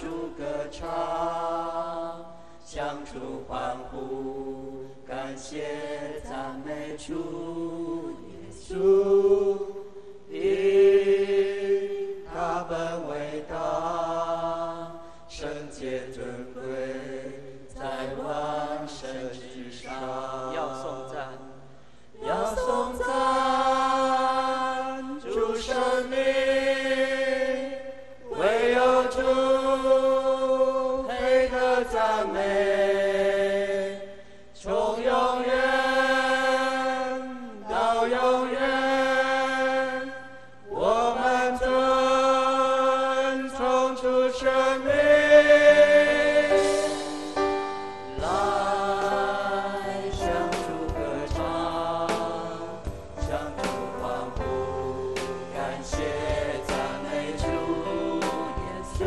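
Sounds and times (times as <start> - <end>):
voices singing worship song: 0.0 - 59.0.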